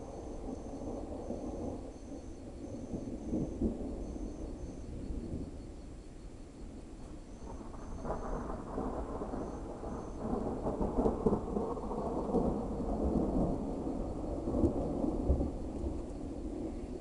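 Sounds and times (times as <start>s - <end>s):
thunder rumbling and crackling: 0.0s - 17.0s.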